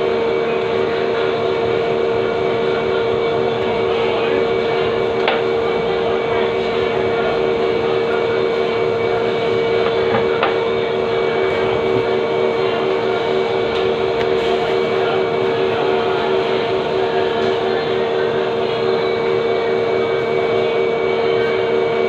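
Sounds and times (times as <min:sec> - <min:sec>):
mechanical hum with pitched tone: 0:00.0 - 0:22.0.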